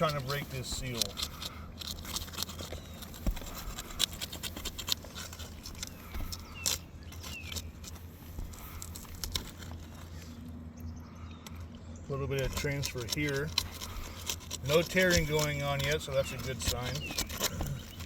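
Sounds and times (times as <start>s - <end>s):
shingle scraping and clicking: 0.0s - 10.6s, 11.4s - 18.0s
steady low hum: 0.0s - 18.0s.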